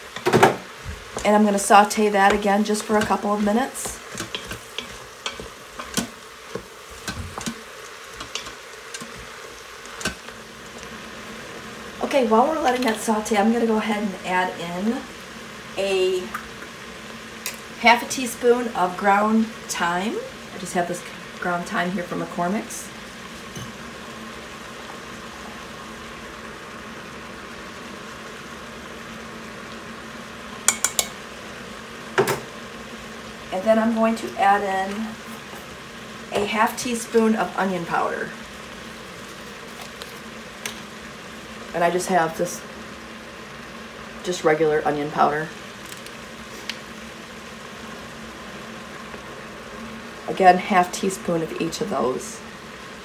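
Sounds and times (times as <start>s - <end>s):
light sizzle: 0.0s - 53.0s.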